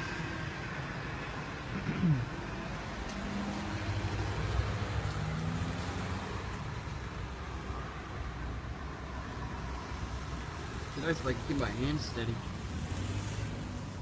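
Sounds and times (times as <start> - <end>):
low rumble of outdoor noise: 0.0 - 14.0.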